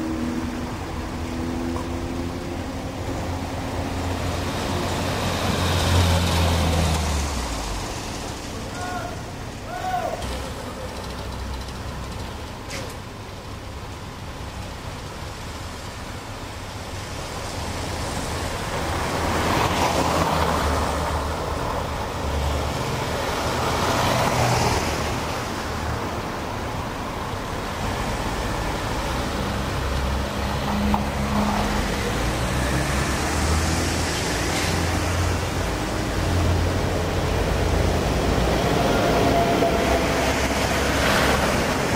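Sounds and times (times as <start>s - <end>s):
cars passing on wet street: 0.0s - 41.9s.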